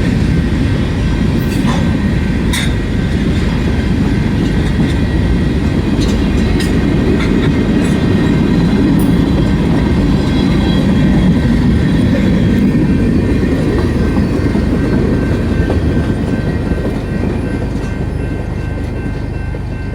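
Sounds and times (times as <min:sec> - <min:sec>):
freight train rumbling past: 0:00.0 - 0:19.9
wheels clicking over rail joints: 0:01.2 - 0:19.9.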